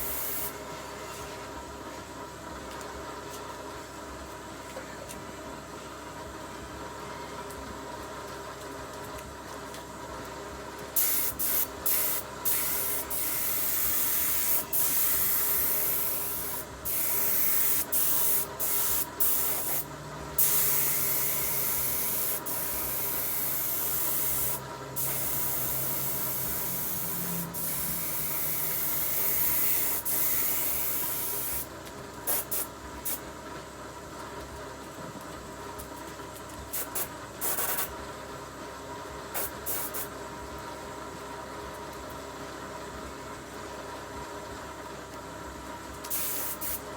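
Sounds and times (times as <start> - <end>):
steady background hum: 0.0 - 46.9.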